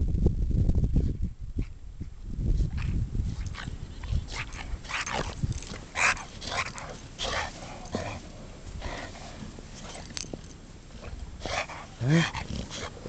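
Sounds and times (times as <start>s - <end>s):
dog breathing noises: 1.6s - 13.0s.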